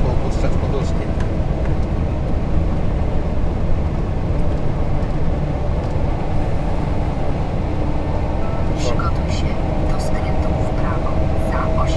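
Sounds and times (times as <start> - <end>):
lorry engine and road rumble: 0.0 - 11.9.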